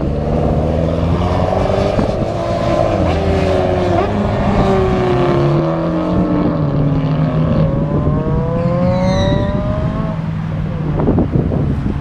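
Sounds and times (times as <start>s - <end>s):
car engines accelerating: 0.0s - 12.0s.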